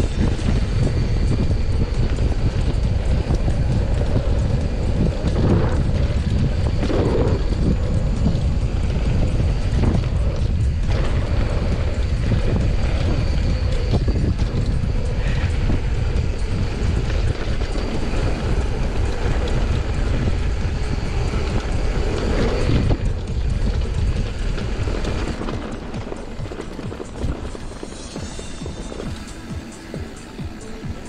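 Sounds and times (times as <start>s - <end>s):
bike rattling over bumps: 0.0s - 31.0s
tyres rumbling over dirt: 0.0s - 31.0s
wind on the microphone: 0.0s - 31.0s.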